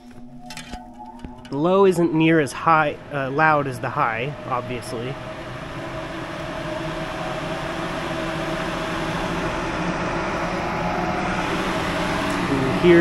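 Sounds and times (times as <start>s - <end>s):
ventilation fan running: 0.0s - 13.0s.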